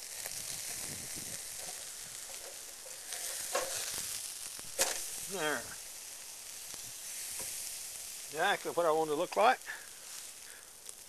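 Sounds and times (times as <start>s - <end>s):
meat sizzling on charcoal grill: 0.0s - 11.0s.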